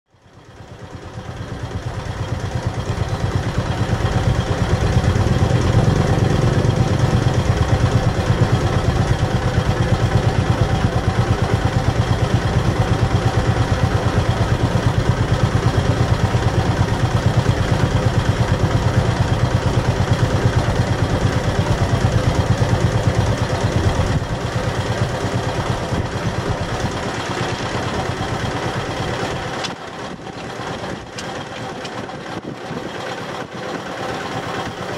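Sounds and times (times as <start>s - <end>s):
marine engine running: 0.1s - 34.9s.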